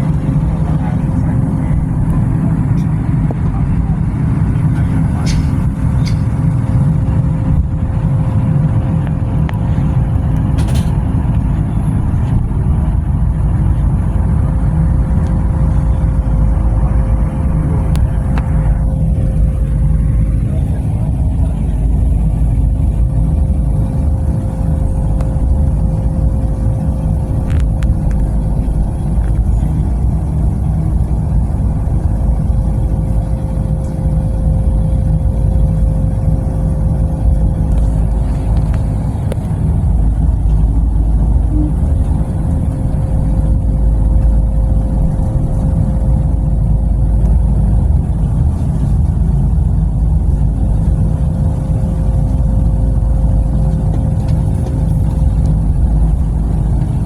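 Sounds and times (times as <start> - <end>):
train rumbling inside carriage: 0.0 - 57.0.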